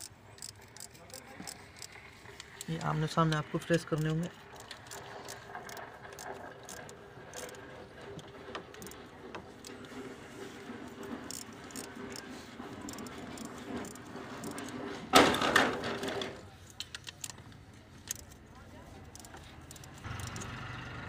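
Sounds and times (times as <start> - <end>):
wrench clicking and rattling: 0.0 - 9.8, 10.8 - 20.6.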